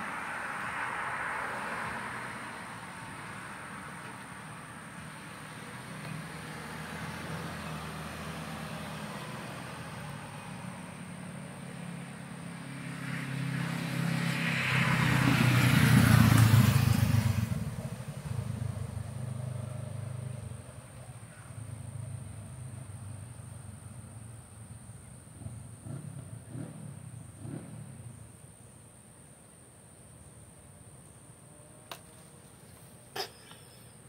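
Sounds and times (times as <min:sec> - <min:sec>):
motor vehicle passing: 0:00.0 - 0:24.7, 0:25.3 - 0:28.3.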